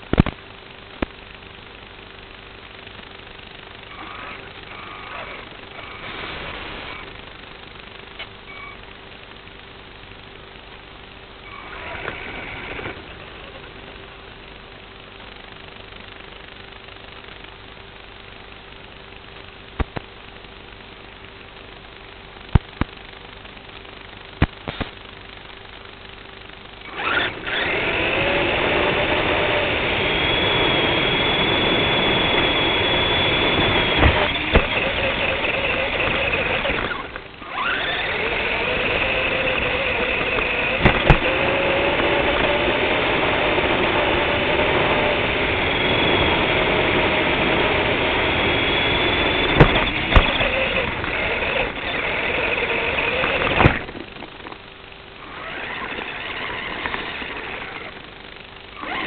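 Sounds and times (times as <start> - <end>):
radio-controlled car motor whine: 1.0 - 9.0, 11.4 - 17.4, 22.0 - 59.0.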